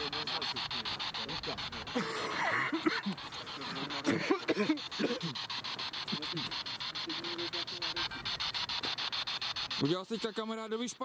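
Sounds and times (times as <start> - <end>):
radio static: 0.0 - 11.0
rapid even clicks: 0.0 - 11.0.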